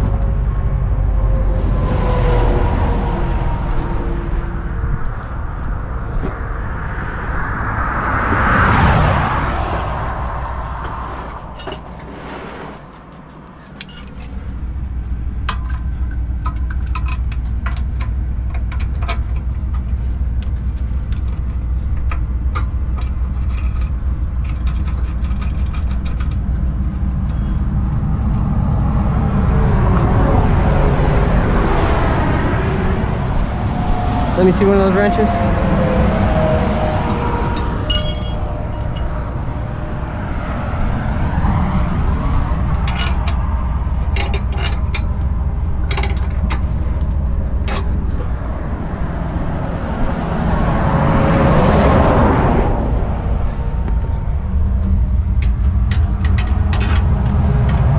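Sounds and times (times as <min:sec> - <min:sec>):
highway traffic passing: 0:00.0 - 0:57.9
low engine rumble: 0:00.0 - 0:57.9.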